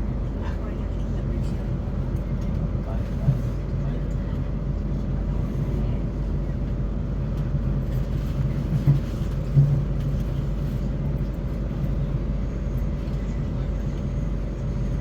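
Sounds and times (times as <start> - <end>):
train rumble and hum: 0.0 - 15.0.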